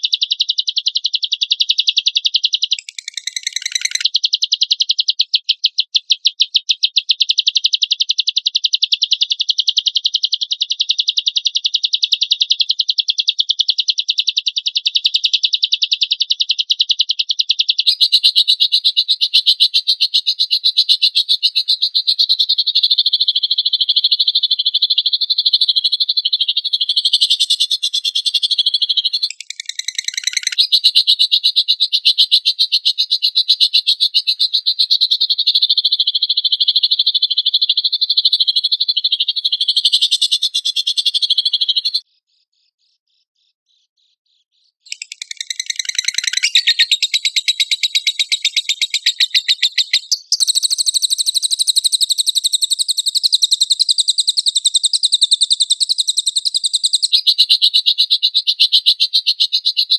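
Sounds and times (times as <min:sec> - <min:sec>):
bird chattering trill: 0:00.0 - 0:42.1, 0:44.8 - 0:59.9.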